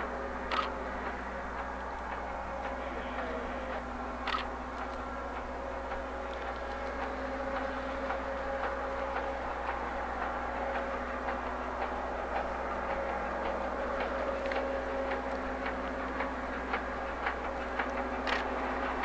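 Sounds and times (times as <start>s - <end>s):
train mechanical drone: 0.0s - 19.0s.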